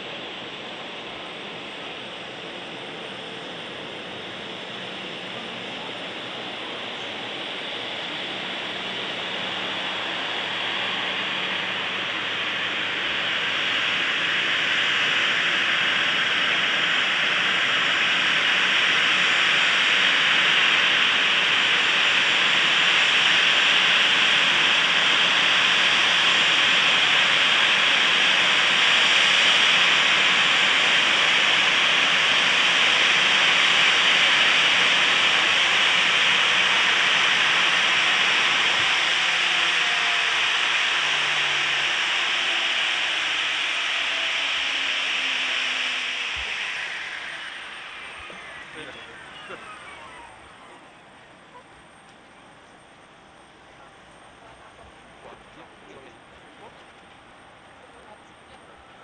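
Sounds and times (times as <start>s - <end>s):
jet engines hissing: 0.0s - 59.0s.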